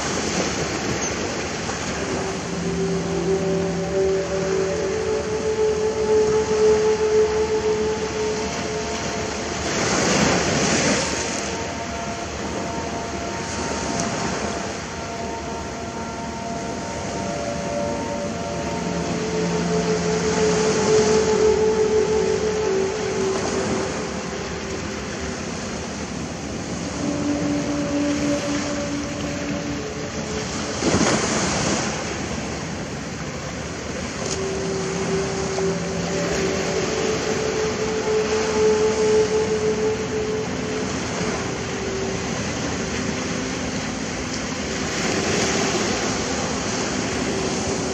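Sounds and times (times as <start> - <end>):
sea surf washing onto shore: 0.0 - 47.9
steady hum: 0.0 - 47.9.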